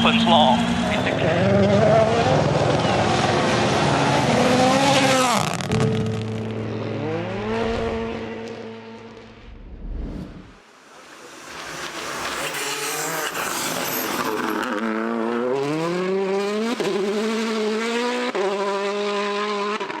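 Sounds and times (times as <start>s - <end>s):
rally car engine accelerating: 0.0s - 10.6s, 11.6s - 20.0s.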